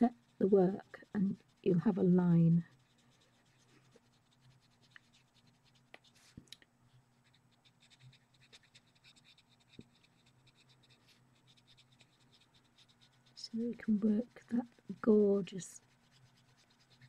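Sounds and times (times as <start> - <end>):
pencil scratching on paper: 0.0 - 6.4, 7.2 - 17.0
faint steady low hum: 0.0 - 17.0.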